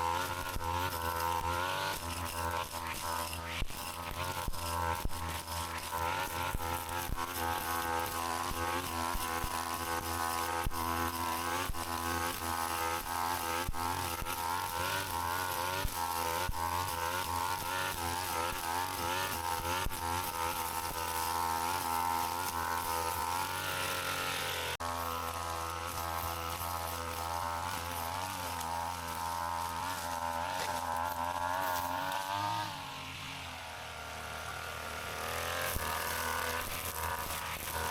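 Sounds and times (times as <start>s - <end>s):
brush cutter engine running: 0.0s - 37.9s.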